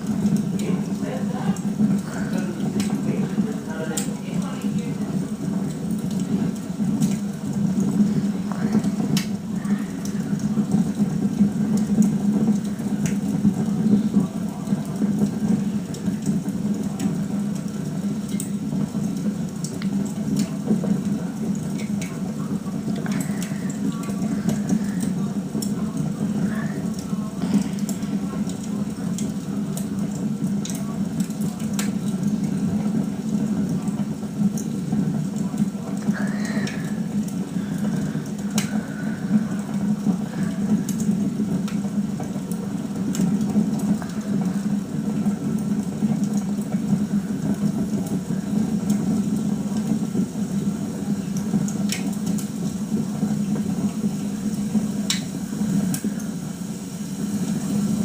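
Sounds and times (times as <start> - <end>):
fire pops and snaps: 0.0 - 56.5
wood fire crackling: 0.0 - 58.0.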